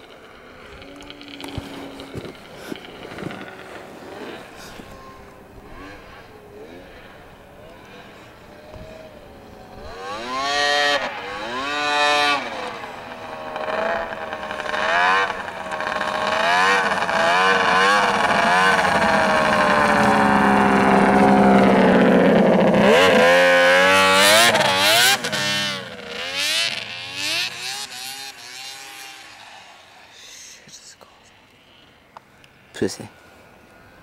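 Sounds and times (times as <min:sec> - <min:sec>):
snowmobile engine revving: 0:00.0 - 0:30.6.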